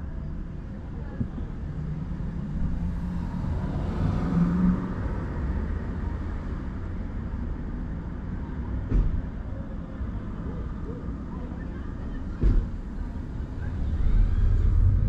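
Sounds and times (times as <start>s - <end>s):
low traffic rumble: 0.0s - 15.0s
cars passing: 1.2s - 9.4s, 10.0s - 15.0s.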